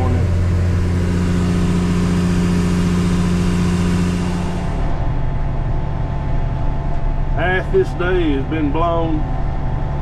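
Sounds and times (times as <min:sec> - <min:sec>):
combine harvester engine humming: 0:00.0 - 0:10.0.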